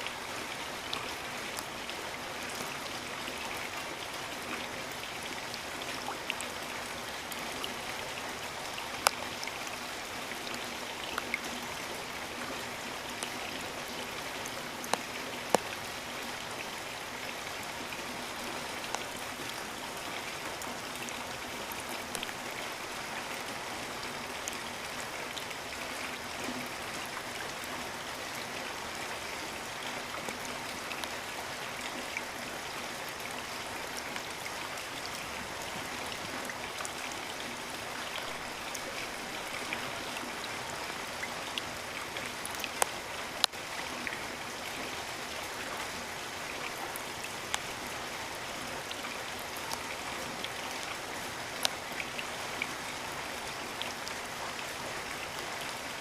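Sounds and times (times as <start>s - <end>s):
steady rain hiss: 0.0s - 56.0s
raindrops clicking close by: 0.1s - 56.0s.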